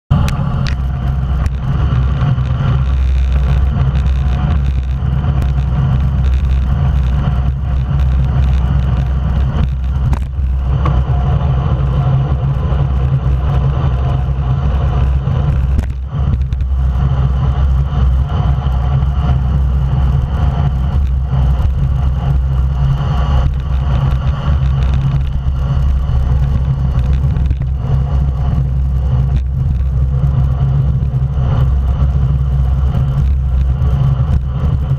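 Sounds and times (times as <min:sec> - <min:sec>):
tyre and road noise: 0:00.1 - 0:34.9
wind rumble on microphone: 0:00.1 - 0:34.9.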